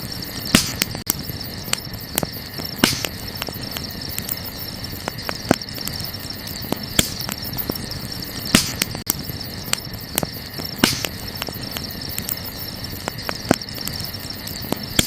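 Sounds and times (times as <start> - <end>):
campfire crackling and popping: 0.0 - 15.0
crickets chirring: 0.0 - 15.0.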